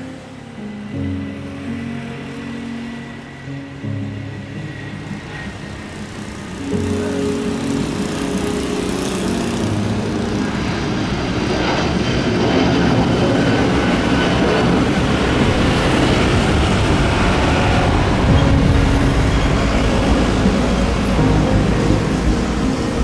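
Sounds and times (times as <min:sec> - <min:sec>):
jet engines at take-off power: 0:00.0 - 0:23.0.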